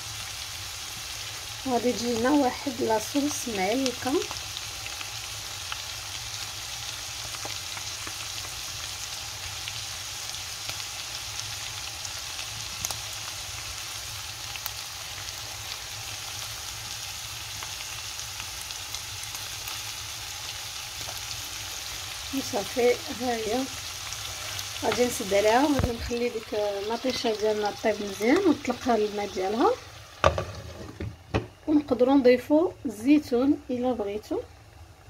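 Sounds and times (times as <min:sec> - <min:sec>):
food sizzling in a frying pan: 0:00.0 - 0:35.0.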